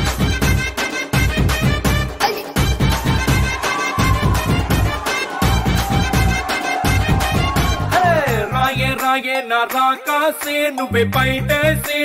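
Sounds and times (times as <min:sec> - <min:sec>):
dance song with heavy bass beat: 0:01.3 - 0:12.0.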